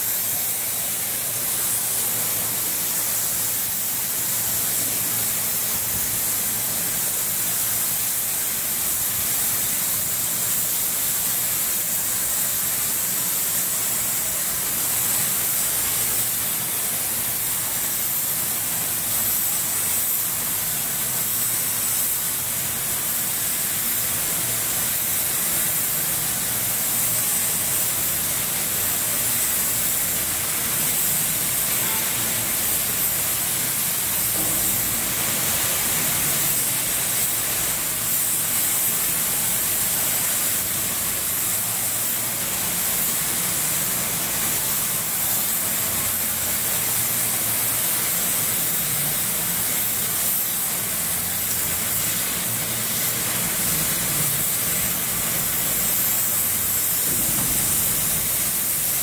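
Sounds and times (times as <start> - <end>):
spray gun hissing: 0.0 - 59.0.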